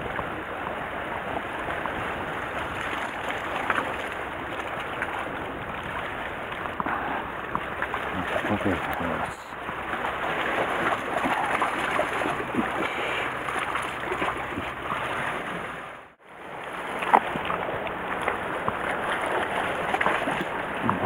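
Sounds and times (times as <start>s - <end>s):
waves on rocky shore: 0.0s - 21.0s.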